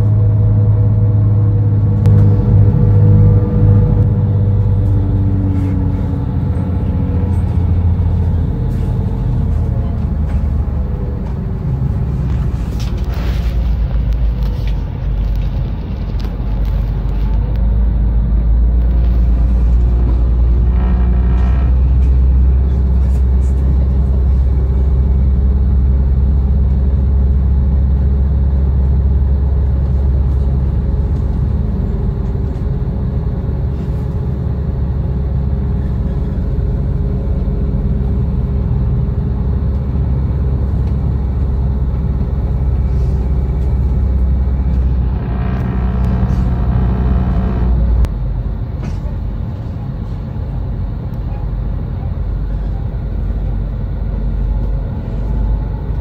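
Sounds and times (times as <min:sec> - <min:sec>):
high-pitched whine: 0:00.0 - 0:50.8
train running drone: 0:00.0 - 0:56.0.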